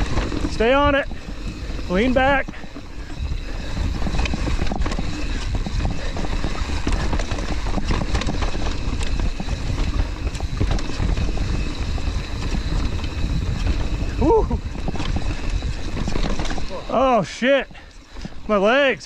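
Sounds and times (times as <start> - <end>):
wind buffeting microphone: 0.0 - 18.6
bike rattling over rocks: 0.0 - 19.0.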